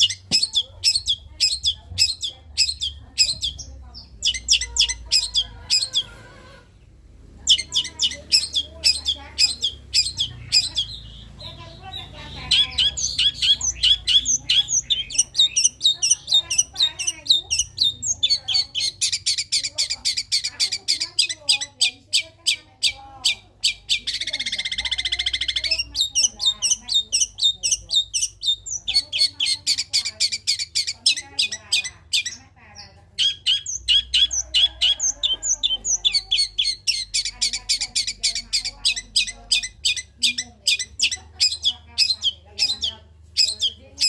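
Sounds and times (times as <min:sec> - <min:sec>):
sparrows chirping harshly: 0:00.0 - 0:06.6, 0:07.2 - 0:44.0.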